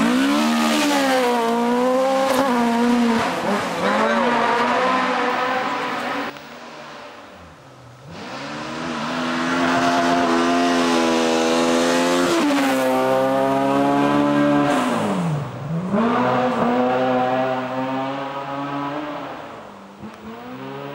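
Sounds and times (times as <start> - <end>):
rally car engine at full throttle: 0.0 - 20.9.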